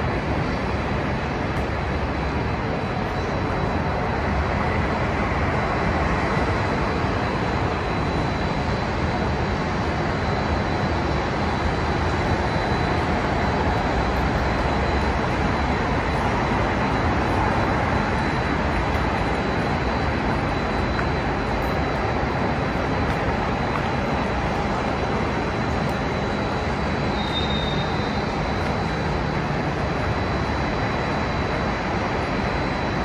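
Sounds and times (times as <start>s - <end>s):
city background hiss and rumble: 0.0s - 33.0s
faint high steady tone: 1.8s - 33.0s.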